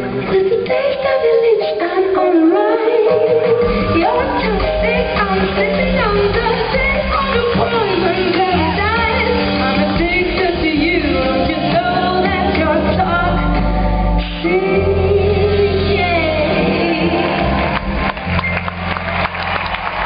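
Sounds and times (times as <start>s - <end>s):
person singing: 0.0s - 18.0s
steady bass line: 3.6s - 20.0s.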